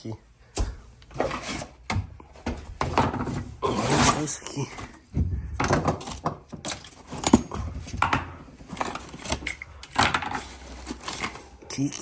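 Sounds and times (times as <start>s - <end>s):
objects knocking and rattling: 0.6s - 11.6s.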